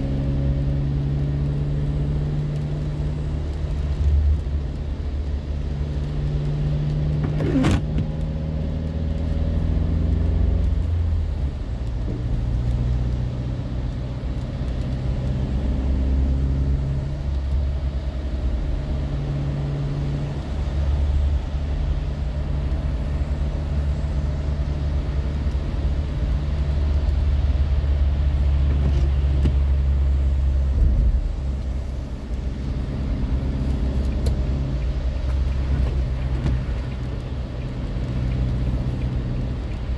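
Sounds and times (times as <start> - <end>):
car engine and road drone: 0.0 - 39.9.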